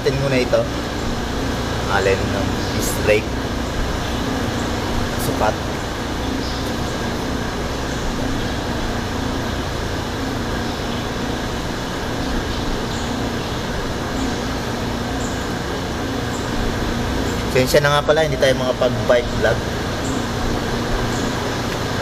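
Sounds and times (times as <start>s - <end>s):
mechanical hum and whir: 0.0s - 22.0s.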